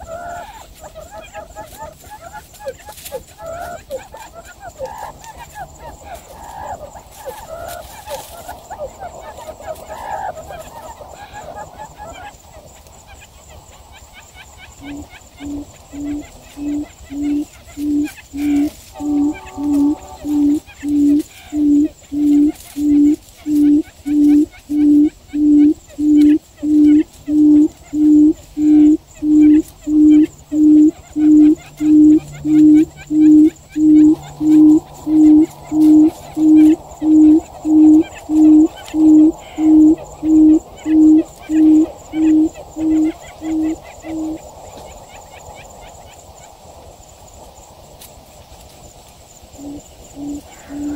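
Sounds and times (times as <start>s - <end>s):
quail hooting: 0.0s - 46.2s, 49.6s - 50.9s.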